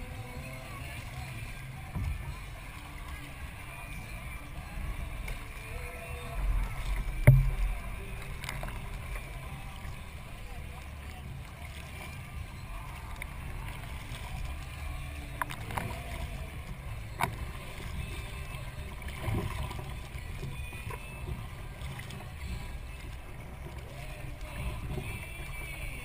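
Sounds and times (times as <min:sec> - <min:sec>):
low rumble of water and air: 0:00.0 - 0:26.0
paddle splashing in water: 0:00.0 - 0:26.0.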